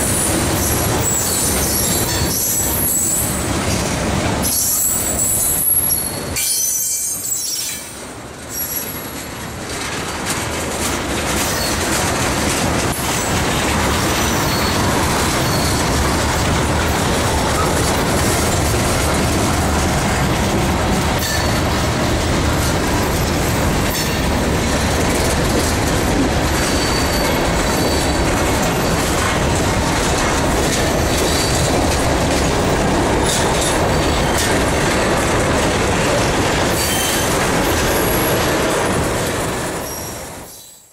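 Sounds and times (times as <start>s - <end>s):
freight train wheels clacking: 0.0s - 40.9s.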